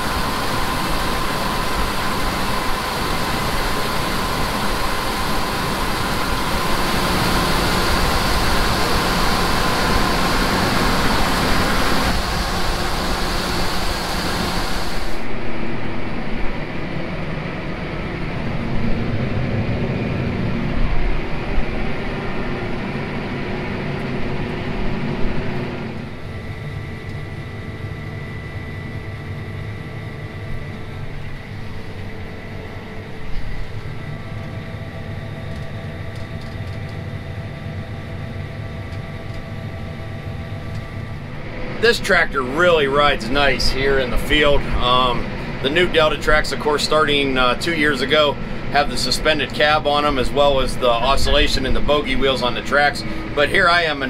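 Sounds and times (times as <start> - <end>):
heavy farm machinery running: 0.0 - 54.0.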